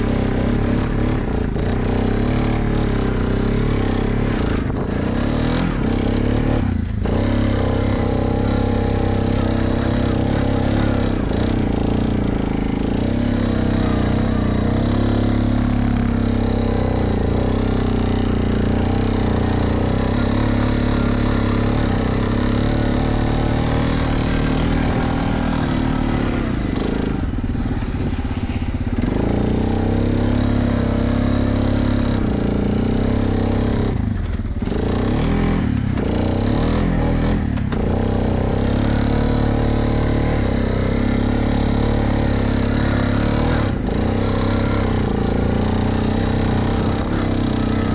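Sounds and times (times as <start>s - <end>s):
quad engine running: 0.0s - 47.9s.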